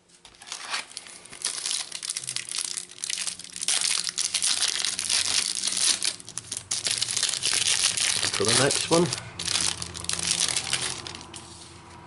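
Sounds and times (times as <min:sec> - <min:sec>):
foil wrapper crinkling: 0:00.2 - 0:11.5.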